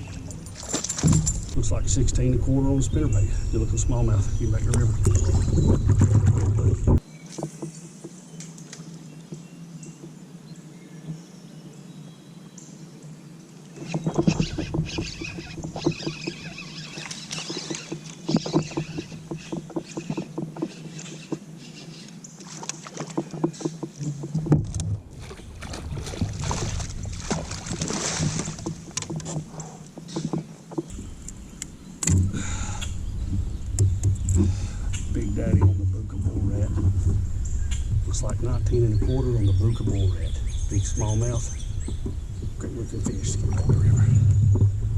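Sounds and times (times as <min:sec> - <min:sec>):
water splashing: 0:00.0 - 0:09.4, 0:13.6 - 0:44.9.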